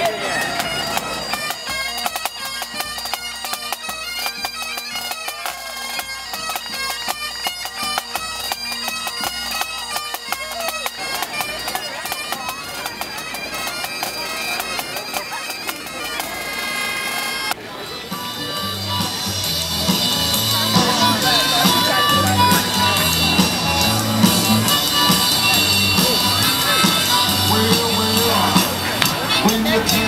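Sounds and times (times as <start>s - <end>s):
bagpipe band playing: 0.0s - 30.0s.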